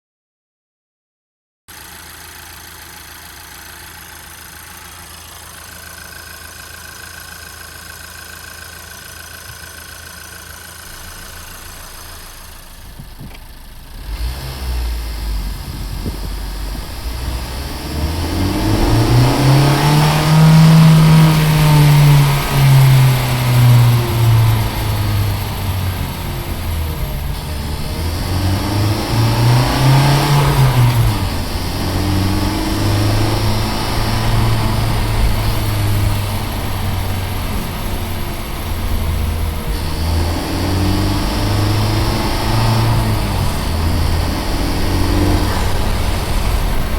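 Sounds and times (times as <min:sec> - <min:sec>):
car running noise: 0:01.7 - 0:46.9.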